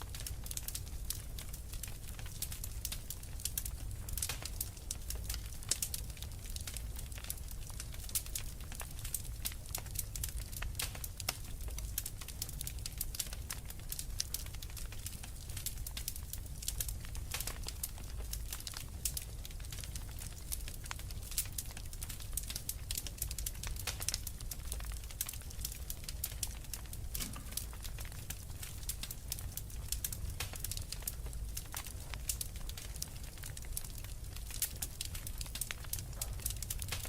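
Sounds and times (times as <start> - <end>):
fire low rumble: 0.0 - 37.0
wood fire pops and snaps: 0.0 - 37.0.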